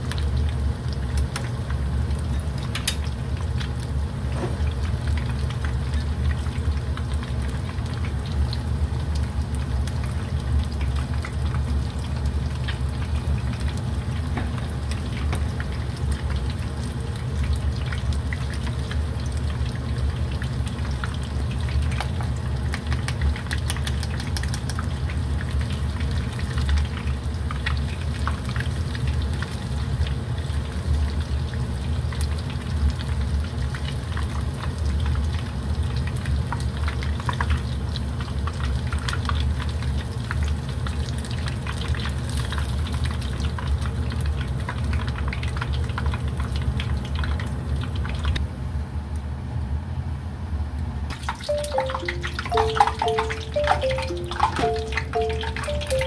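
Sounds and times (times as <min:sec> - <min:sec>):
deep-frying oil sizzling and crackling: 0:00.0 - 0:56.0.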